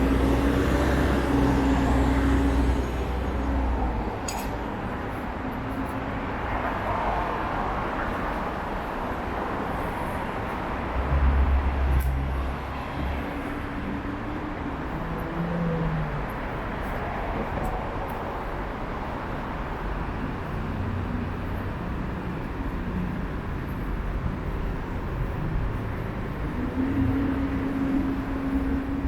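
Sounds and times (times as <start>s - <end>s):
cars passing on busy street: 0.0s - 29.0s.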